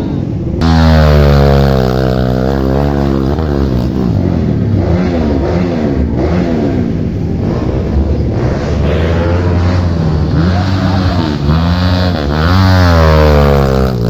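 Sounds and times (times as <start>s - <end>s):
vehicle engine revving hard: 0.6s - 14.0s.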